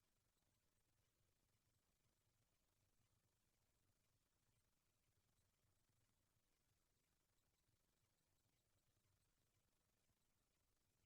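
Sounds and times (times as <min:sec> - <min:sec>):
faint background hiss: 0:00.0 - 0:11.0
low electrical hum: 0:00.0 - 0:11.0.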